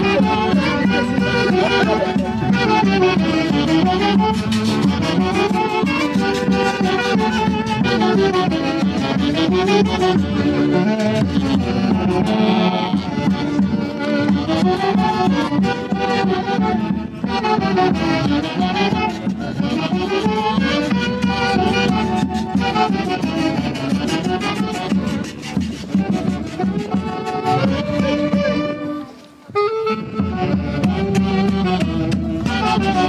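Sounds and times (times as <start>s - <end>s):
festival orchestra playing a tune: 0.0s - 33.0s.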